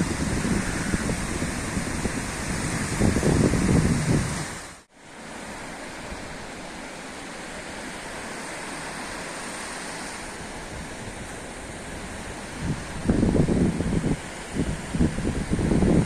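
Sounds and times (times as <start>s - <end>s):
sea surf hissing: 0.0s - 16.0s.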